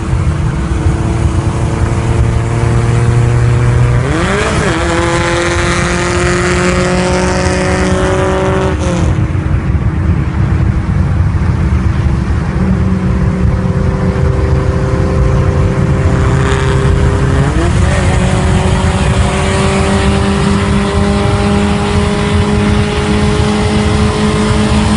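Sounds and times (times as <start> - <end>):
car engine running: 0.0 - 24.9
road noise: 0.0 - 24.9.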